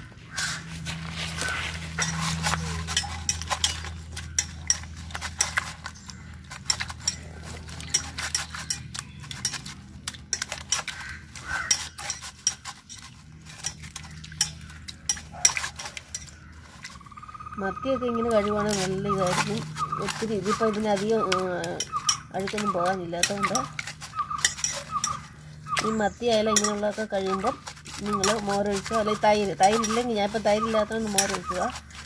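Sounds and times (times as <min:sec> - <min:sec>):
hands washing fish in liquid: 0:00.9 - 0:17.0, 0:18.0 - 0:32.0.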